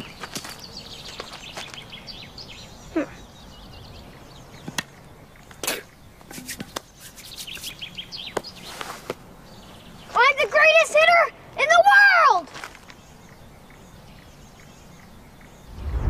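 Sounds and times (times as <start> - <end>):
birds chirping: 0.0 - 11.8, 12.8 - 16.0.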